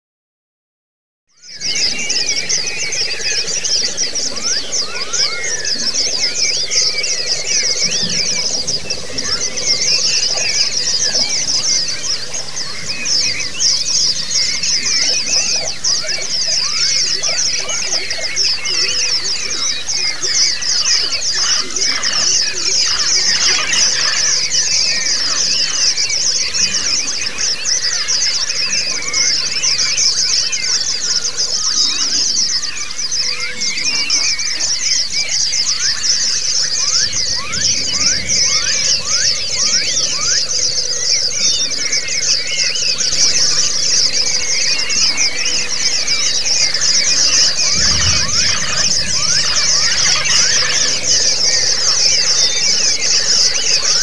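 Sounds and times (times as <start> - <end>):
bird chirping and trilling: 1.3 - 54.0.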